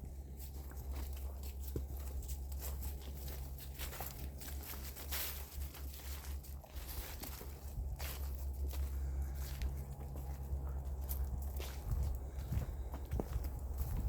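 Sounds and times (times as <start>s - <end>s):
footsteps crunching on trail: 0.0s - 14.0s
steady low hum: 0.0s - 14.0s.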